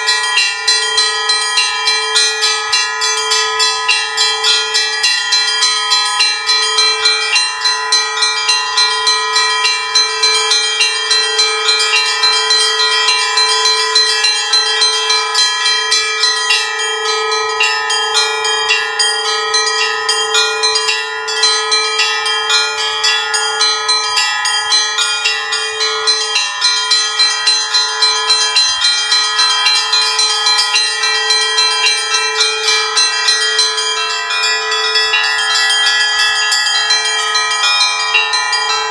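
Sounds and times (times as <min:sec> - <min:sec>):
large bells ringing: 0:00.0 - 0:38.9
small church bells struck rapidly: 0:00.0 - 0:38.9.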